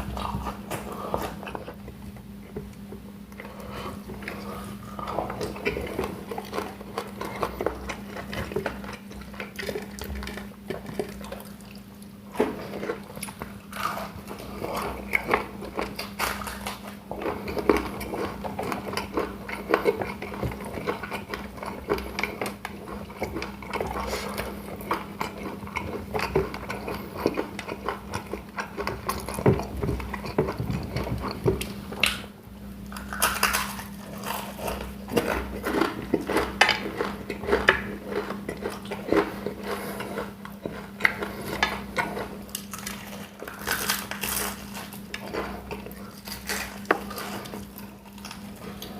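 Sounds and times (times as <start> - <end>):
mouth chewing food: 0.0 - 32.2, 32.9 - 48.9
steady low hum: 0.0 - 48.9.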